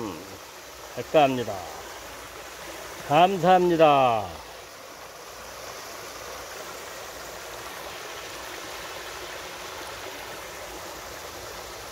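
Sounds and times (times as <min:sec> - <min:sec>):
stream rushing over rocks: 0:00.0 - 0:11.9.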